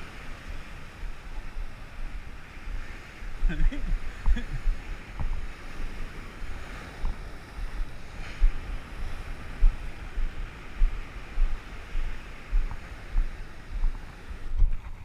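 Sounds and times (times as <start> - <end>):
rough sea waves: 0.0 - 15.0
wind buffeting microphone: 0.0 - 15.0.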